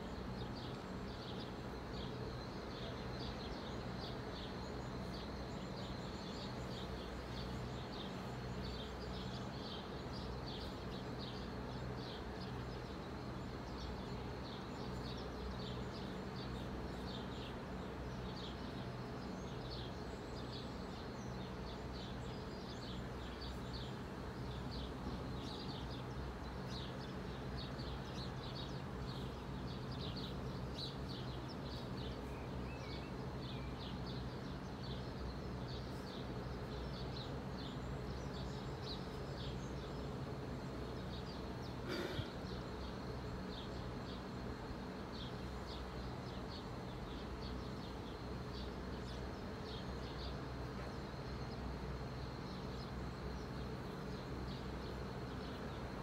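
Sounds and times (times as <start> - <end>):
birds chirping: 0.1 - 56.0.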